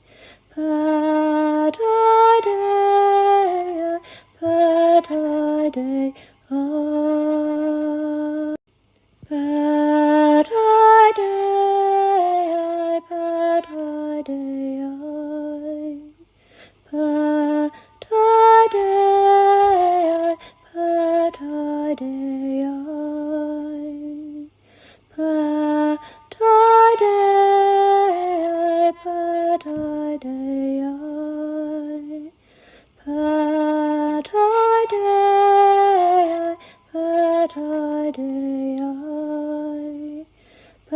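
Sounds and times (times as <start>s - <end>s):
woman singing unaccompanied: 0.0s - 8.6s, 9.2s - 40.9s.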